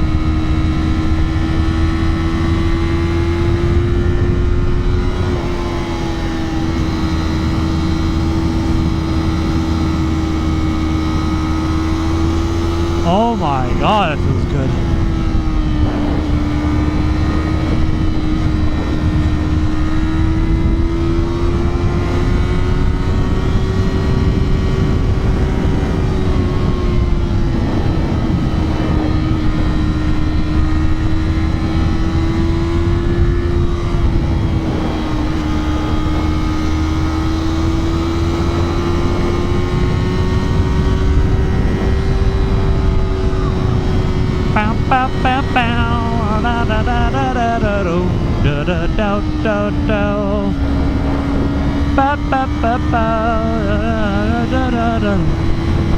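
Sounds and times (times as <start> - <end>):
wind rush on microphone: 0.0 - 13.1, 14.4 - 55.9
motorcycle engine at high revs: 0.0 - 55.9.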